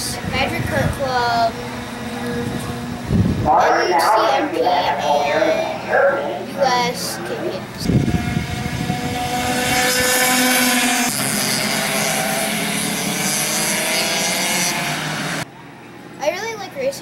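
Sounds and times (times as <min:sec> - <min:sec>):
kart engines running hard: 0:00.0 - 0:15.5.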